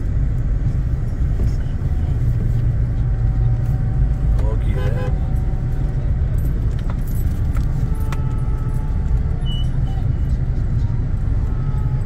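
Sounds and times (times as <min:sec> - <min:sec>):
car rumble from inside cabin: 0:00.0 - 0:12.0.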